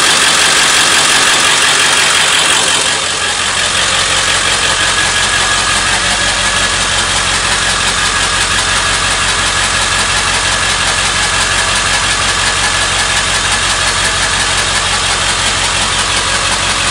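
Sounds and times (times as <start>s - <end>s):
diesel engine idling with ticking: 0.0s - 16.9s.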